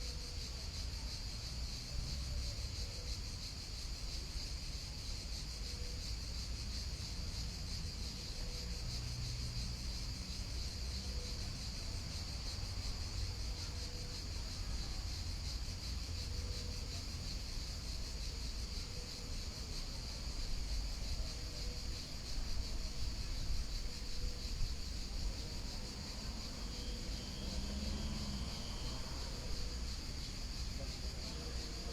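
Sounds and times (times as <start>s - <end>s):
insects chirping: 0.0s - 31.9s.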